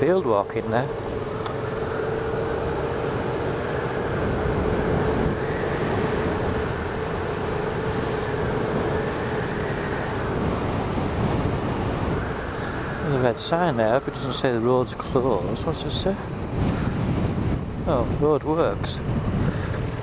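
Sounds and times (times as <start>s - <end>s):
motorcycle engine cruising: 0.0s - 20.0s
wind noise on microphone: 0.8s - 20.0s.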